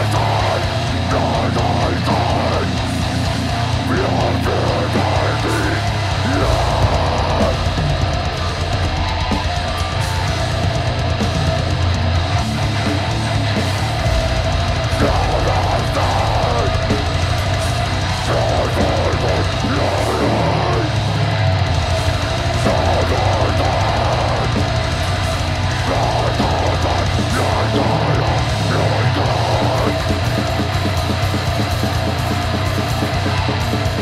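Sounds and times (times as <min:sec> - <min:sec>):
distorted electric guitar: 0:00.0 - 0:34.0
pounding drum kit: 0:00.0 - 0:34.0
vocalist singing: 0:00.0 - 0:34.0.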